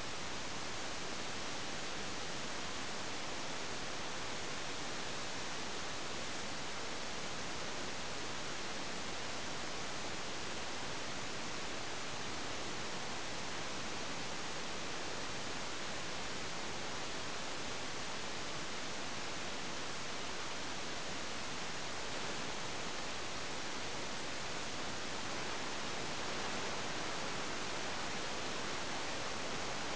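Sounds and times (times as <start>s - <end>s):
microphone electronic hiss: 0.0s - 29.9s.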